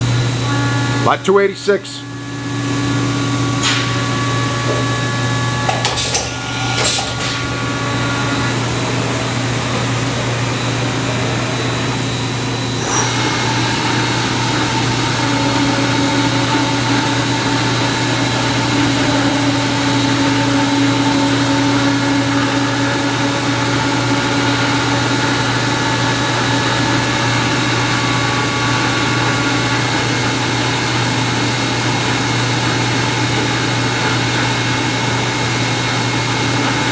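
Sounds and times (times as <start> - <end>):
machining center humming and whining: 0.0 - 36.9.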